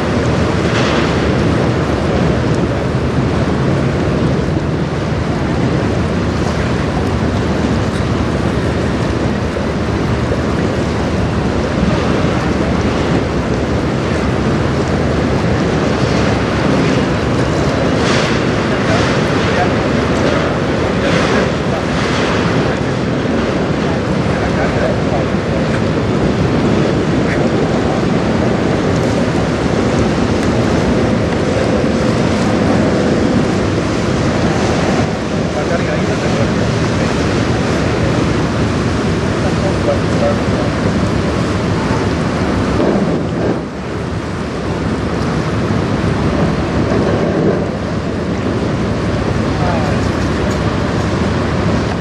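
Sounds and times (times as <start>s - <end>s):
choppy river water: 0.0s - 52.0s
wind buffeting microphone: 0.0s - 52.0s.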